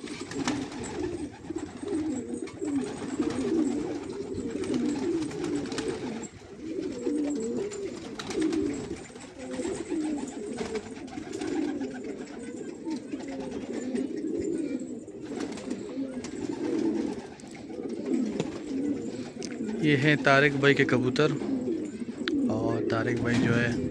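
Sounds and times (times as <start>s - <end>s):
wings flapping: 0.0s - 14.4s, 15.2s - 22.4s
pigeons cooing: 0.0s - 23.9s.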